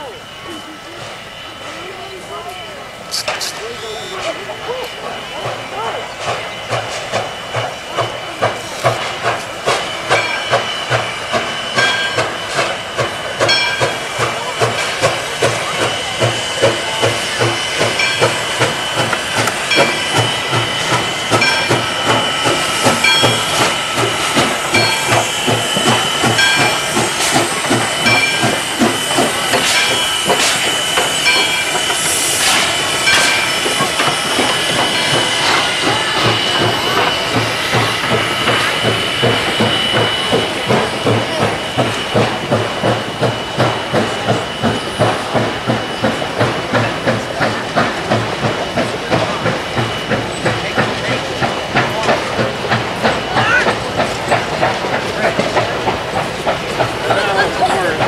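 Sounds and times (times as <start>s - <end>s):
steam hissing: 0.0s - 58.0s
steam locomotive chuffing: 0.0s - 58.0s.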